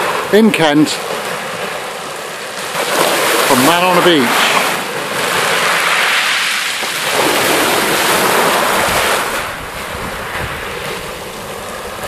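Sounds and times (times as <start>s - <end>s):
waves breaking on shingle: 0.0s - 12.0s
wind buffeting microphone: 1.0s - 12.0s.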